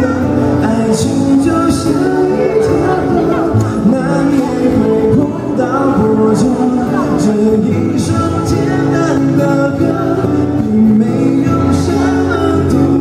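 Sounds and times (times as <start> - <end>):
live band playing pop song: 0.0 - 13.0
man singing: 0.0 - 13.0.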